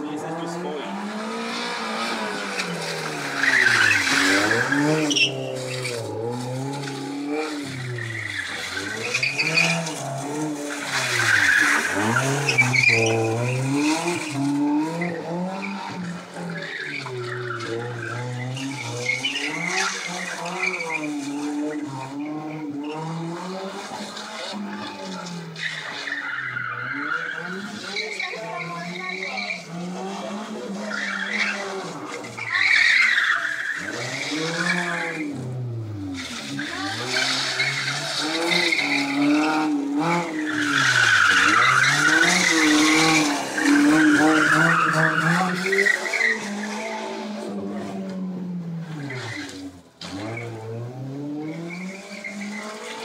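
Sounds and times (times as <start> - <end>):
car engine revving: 0.0 - 53.0
tyres squealing: 0.9 - 23.1, 24.5 - 47.5.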